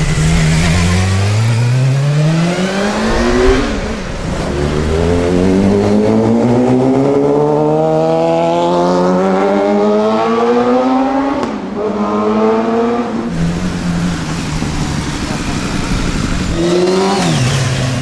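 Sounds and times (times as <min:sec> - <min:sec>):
motorcycle engine accelerating hard: 0:00.0 - 0:18.0.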